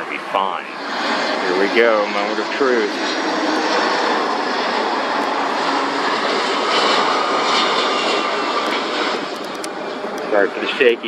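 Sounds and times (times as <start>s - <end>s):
faint jet whine: 0.0s - 11.0s
jet engines roaring: 0.0s - 11.0s.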